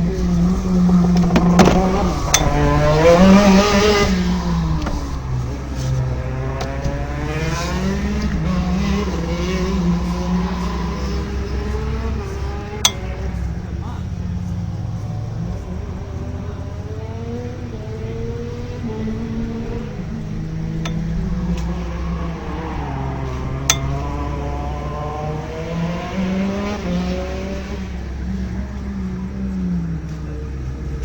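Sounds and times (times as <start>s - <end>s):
two-stroke kart engine revving: 0.0s - 31.0s.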